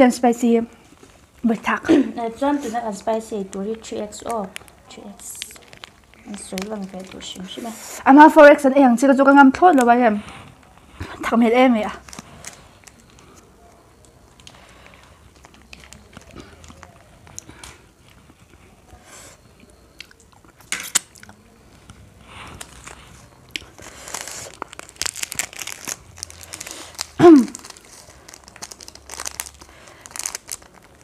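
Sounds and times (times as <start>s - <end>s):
sachets crinkling and rustling: 2.2s - 8.1s, 9.6s - 31.0s.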